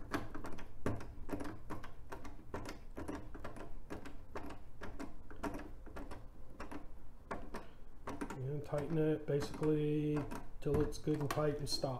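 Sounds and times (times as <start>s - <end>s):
screw clicking as turned: 0.0s - 11.5s.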